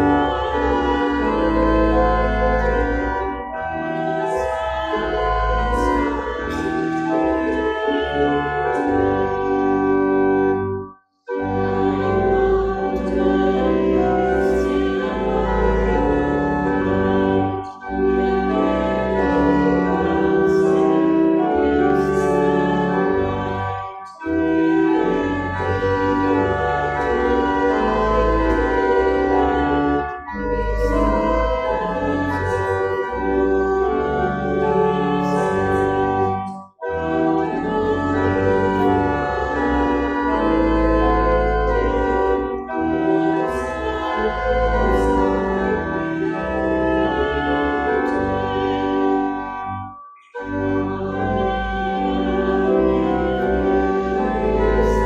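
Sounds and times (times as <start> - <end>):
church organ playing a hymn: 0.0 - 55.0.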